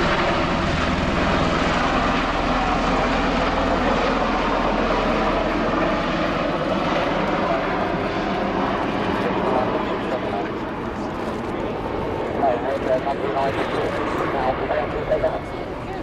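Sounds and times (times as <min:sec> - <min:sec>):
tiltrotor aircraft flying past: 0:00.0 - 0:16.0.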